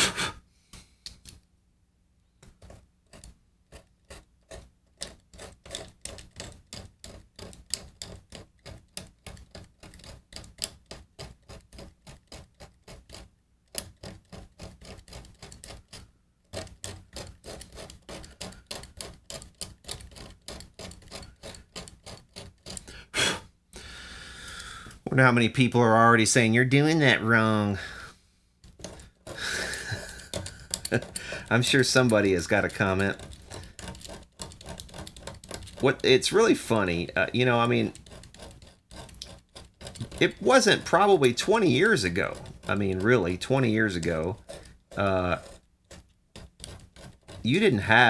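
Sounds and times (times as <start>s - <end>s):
blade scraping glue: 2.4s - 23.1s, 27.8s - 48.0s.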